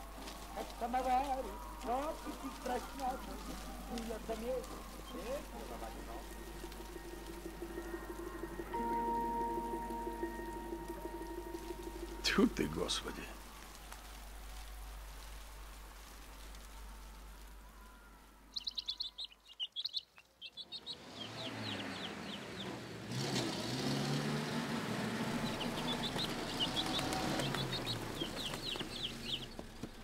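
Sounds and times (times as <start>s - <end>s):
truck engine rumbling: 0.0s - 17.7s, 20.5s - 30.0s
sparrows chirping: 0.0s - 30.0s.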